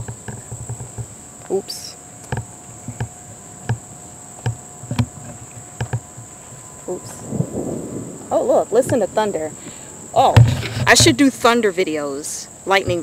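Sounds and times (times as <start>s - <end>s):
low steady tone: 0.0s - 12.1s
crickets chirping: 0.0s - 13.0s.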